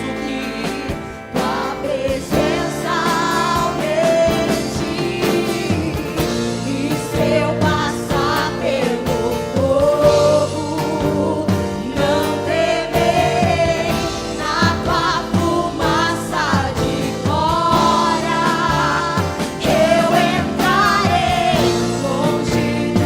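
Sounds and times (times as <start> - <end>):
full band with steady beat: 0.0 - 23.0
person singing worship song: 0.0 - 23.0.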